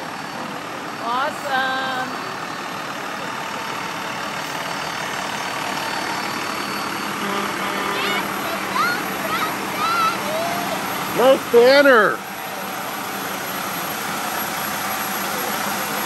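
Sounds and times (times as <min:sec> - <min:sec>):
bus driving past: 0:00.0 - 0:16.0
heavy truck engine hum: 0:00.0 - 0:16.0.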